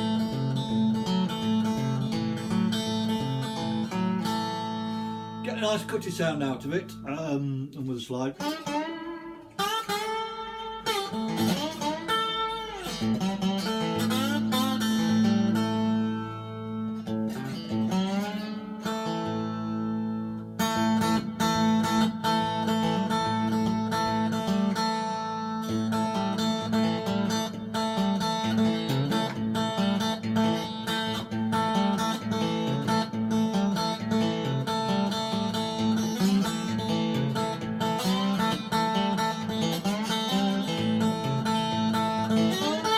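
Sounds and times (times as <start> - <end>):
slide electric guitar riff: 0.0 - 42.9.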